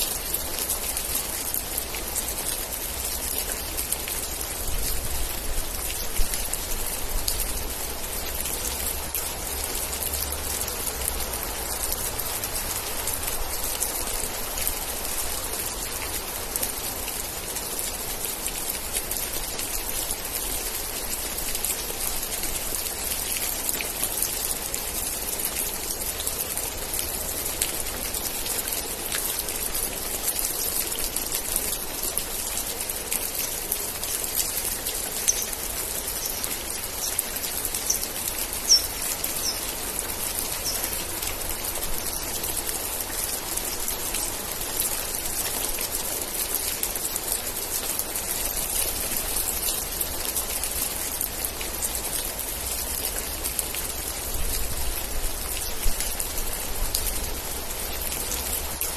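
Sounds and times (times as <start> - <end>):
rain pattering on surfaces: 0.0 - 58.9.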